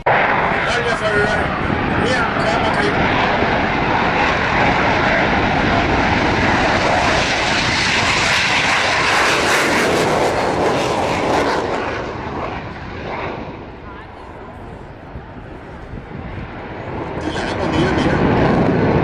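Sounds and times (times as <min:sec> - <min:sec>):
fighter jet passing: 0:00.0 - 0:19.0.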